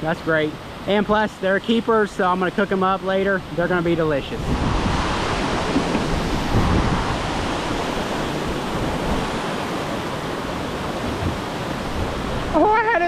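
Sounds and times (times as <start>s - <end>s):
water rushing over dam spillway: 0.0s - 13.0s.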